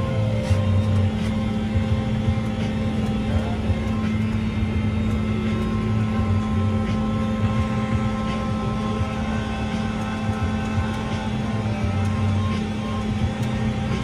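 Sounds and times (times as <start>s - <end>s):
tractor engine running under load: 0.0s - 14.0s.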